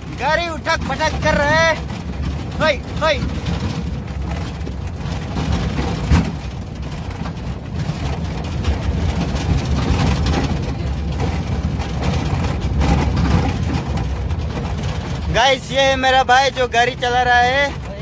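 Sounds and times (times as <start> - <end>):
engine and road rumble: 0.0 - 18.0
vehicle body knocking over bumps: 0.0 - 18.0.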